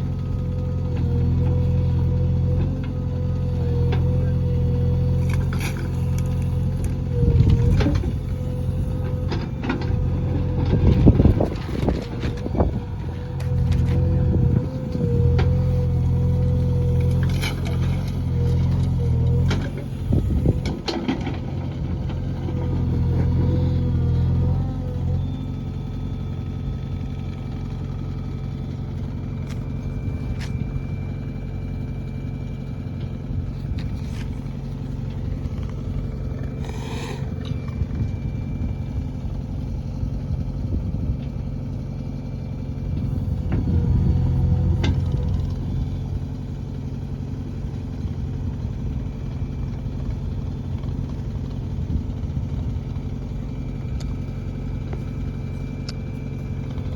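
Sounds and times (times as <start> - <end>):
diesel engine running with whine: 0.0 - 56.9.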